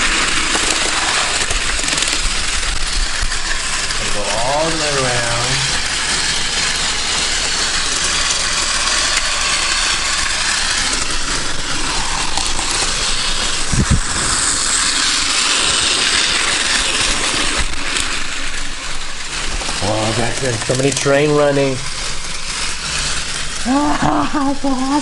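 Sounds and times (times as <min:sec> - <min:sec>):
toy trains whirring rattle: 0:00.0 - 0:25.0.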